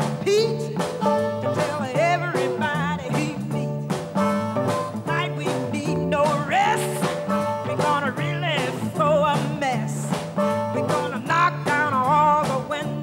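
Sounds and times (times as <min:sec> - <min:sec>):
electric blues band: 0:00.0 - 0:13.0
woman singing blues: 0:00.0 - 0:13.0.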